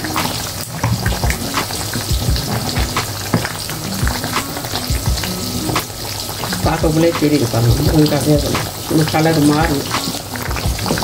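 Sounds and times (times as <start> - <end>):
bubbles plopping: 0.0 - 11.0
curry bubbling in a pot: 0.0 - 11.0.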